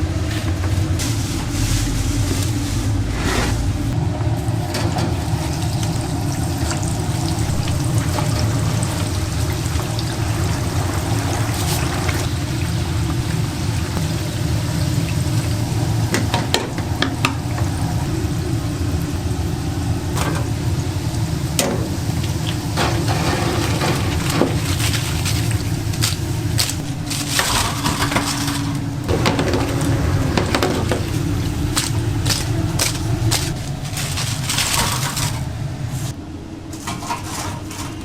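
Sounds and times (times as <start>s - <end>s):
low hum: 0.0s - 36.7s.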